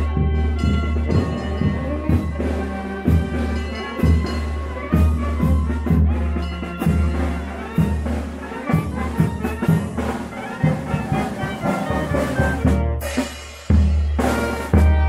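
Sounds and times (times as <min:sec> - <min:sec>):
brass band playing: 0:00.0 - 0:15.0
drum beat: 0:00.0 - 0:15.0.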